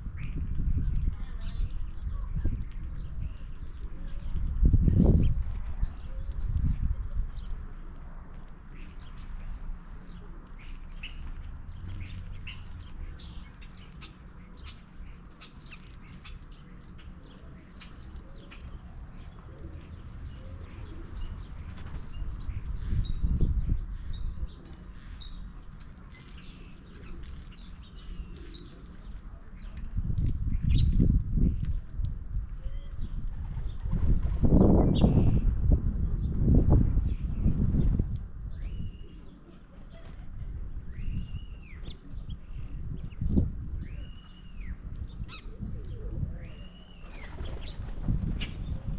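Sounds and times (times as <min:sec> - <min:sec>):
songbirds chirping: 0:00.0 - 0:33.9, 0:34.5 - 0:48.9.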